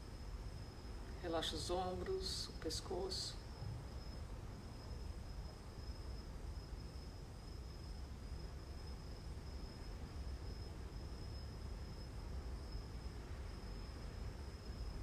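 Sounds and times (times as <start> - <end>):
high-pitched insect-like trill: 0.0 - 15.0
low background rumble: 0.0 - 15.0.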